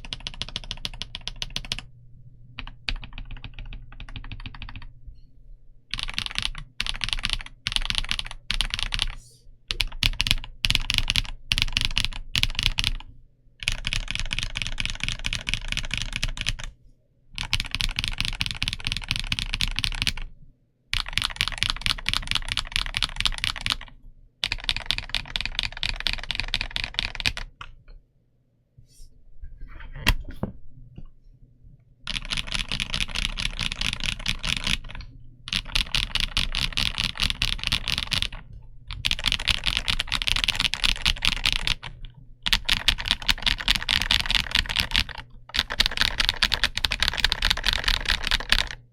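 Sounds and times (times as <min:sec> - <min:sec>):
mechanical keyboard typing: 0:00.0 - 0:01.9, 0:02.6 - 0:04.9, 0:05.9 - 0:16.7, 0:17.4 - 0:20.3, 0:21.0 - 0:27.7, 0:32.1 - 0:48.9.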